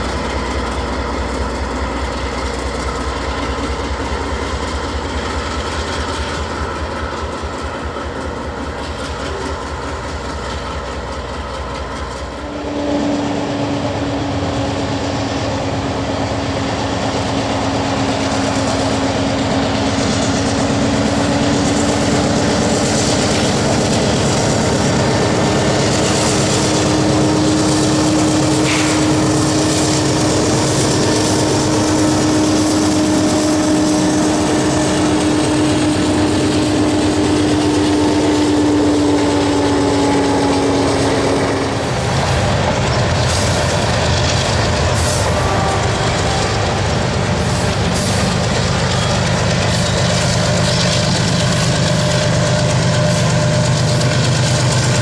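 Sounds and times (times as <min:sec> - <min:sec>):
train wheels clattering on rails: 0:00.0 - 0:12.6, 0:13.2 - 0:55.0
diesel locomotive droning: 0:00.0 - 0:55.0.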